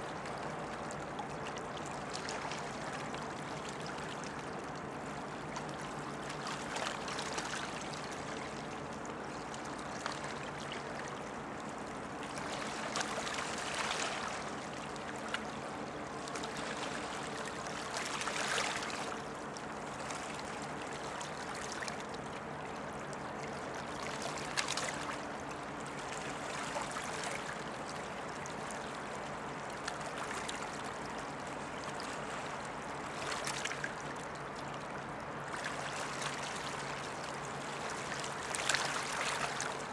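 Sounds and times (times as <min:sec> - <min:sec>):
ship engine low hum: 0:00.0 - 0:39.9
water lapping against stony bank: 0:00.0 - 0:39.9.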